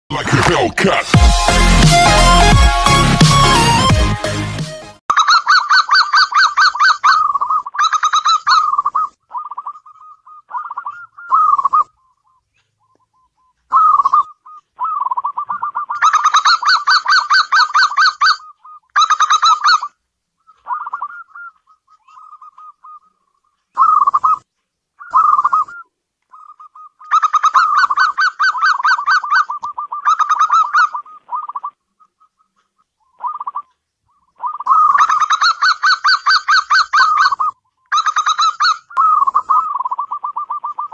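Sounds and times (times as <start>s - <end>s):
dove cooing: 5.2s - 12.1s, 13.1s - 23.2s, 23.8s - 24.4s, 25.0s - 32.6s, 33.2s - 40.9s.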